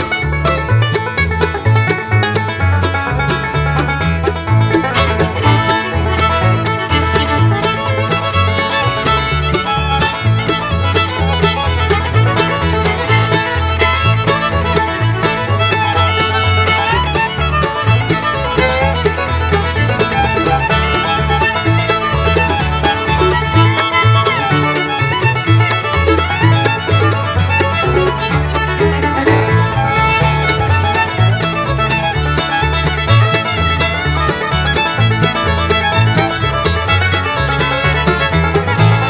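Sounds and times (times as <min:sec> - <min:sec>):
upbeat bluegrass music: 0:00.0 - 0:39.0.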